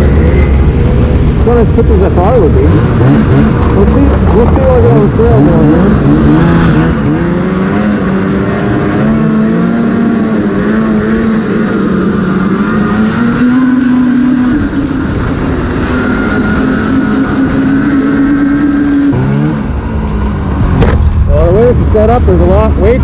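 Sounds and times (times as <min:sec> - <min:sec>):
snowmobile two-stroke engine: 0:00.0 - 0:23.0.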